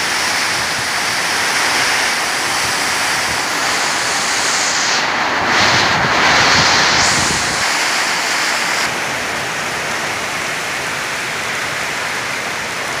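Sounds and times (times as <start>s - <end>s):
heavy rain pouring: 0.0s - 13.0s
wind: 0.0s - 13.0s.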